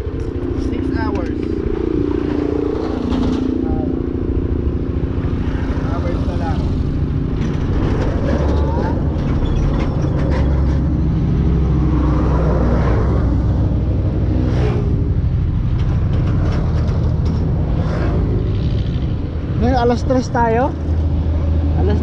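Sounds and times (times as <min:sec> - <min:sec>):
trucks passing: 0:00.0 - 0:22.0.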